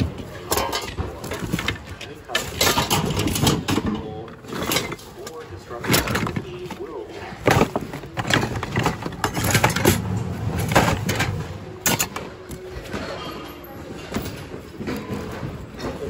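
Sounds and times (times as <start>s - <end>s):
rummaging through plastic bin: 0.0s - 16.0s.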